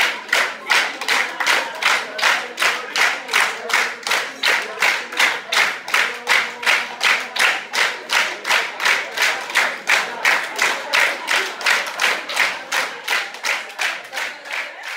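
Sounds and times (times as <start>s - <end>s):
audience clapping in unison: 0.0s - 14.9s.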